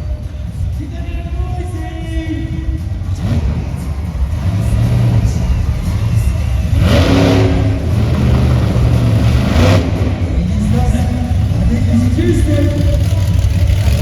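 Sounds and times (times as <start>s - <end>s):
large engine revving: 2.7s - 14.0s.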